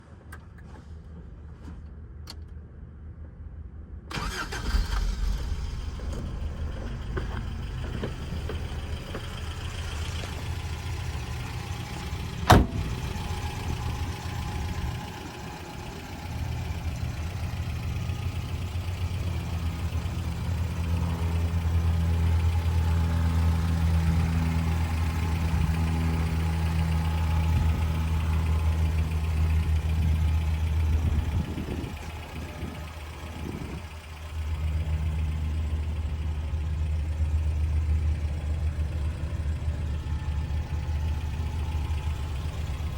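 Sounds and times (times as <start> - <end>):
pickup engine starting and idling: 4.1 - 42.9.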